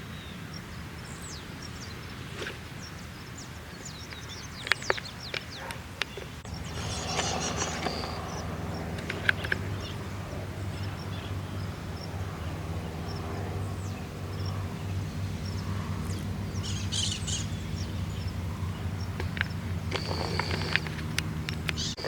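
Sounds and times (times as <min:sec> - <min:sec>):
birds chirping: 0:00.0 - 0:22.0
distant propeller plane drone: 0:00.0 - 0:22.0.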